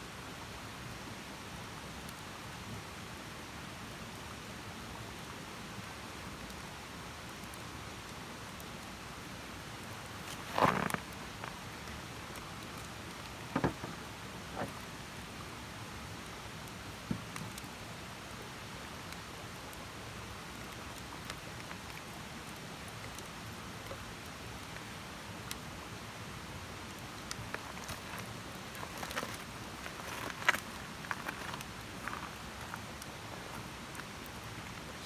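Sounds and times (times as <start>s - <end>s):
campfire crackling: 5.1s - 35.0s.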